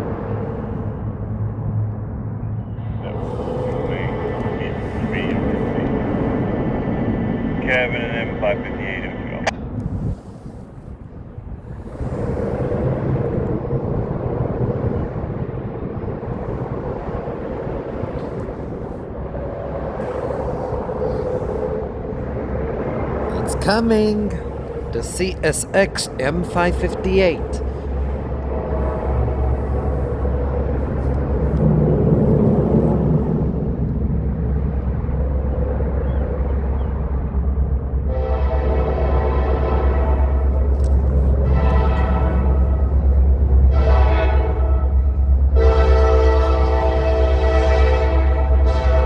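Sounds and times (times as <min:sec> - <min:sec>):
diesel locomotive engines droning: 0:00.0 - 0:49.0.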